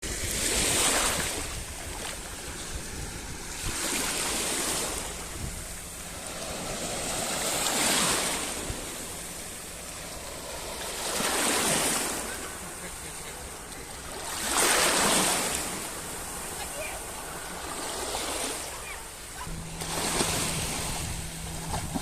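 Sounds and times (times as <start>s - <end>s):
sea waves breaking on shore: 0.0s - 22.0s.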